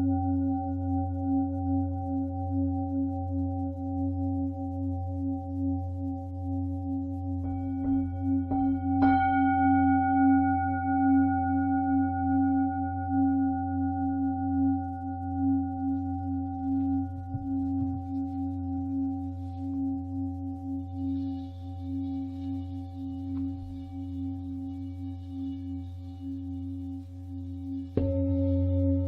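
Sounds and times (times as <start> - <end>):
singing bowl ringing: 4.2 - 29.0.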